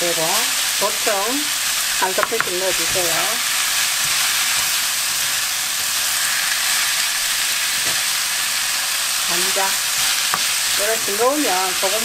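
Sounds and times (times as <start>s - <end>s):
stems sizzling in oil: 0.0s - 12.0s.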